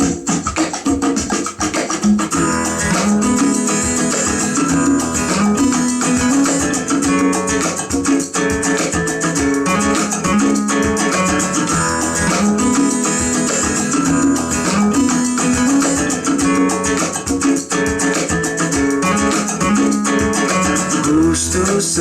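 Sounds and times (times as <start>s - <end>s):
guitar over steady percussion: 0.0s - 22.0s.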